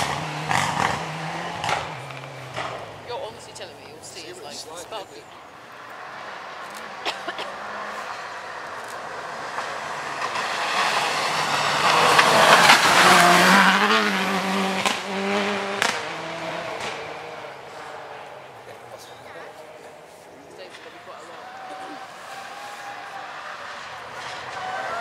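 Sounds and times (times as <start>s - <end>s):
gravel and tyre noise: 0.0s - 25.0s
rally car engine passing: 0.0s - 25.0s.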